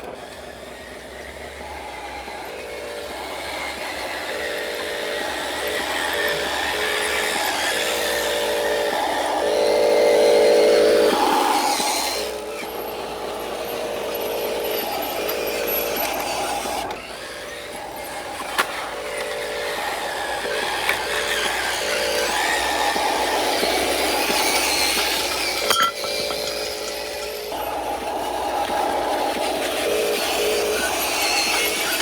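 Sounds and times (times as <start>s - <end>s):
rough running noise: 0.0s - 32.0s
toy truck motor whining: 0.0s - 32.0s.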